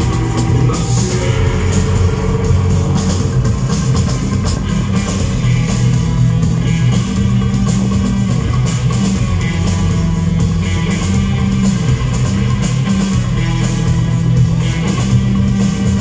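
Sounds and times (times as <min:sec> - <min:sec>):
drum and cymbal hits: 0:00.0 - 0:16.0
rock band playing live: 0:00.0 - 0:16.0.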